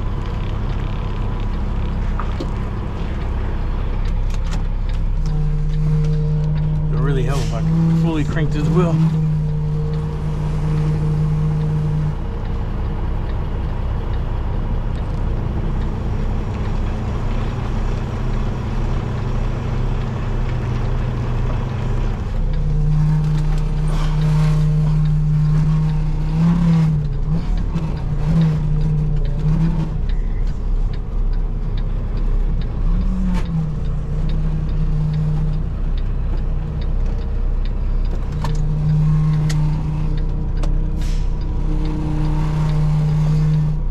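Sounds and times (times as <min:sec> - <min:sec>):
truck diesel engine drone: 0:00.0 - 0:43.9.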